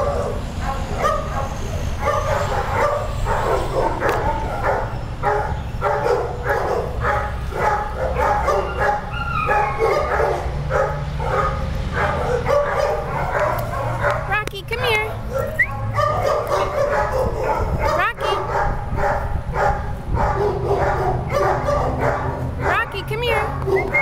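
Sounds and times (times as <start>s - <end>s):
dogs barking: 0.0s - 24.0s.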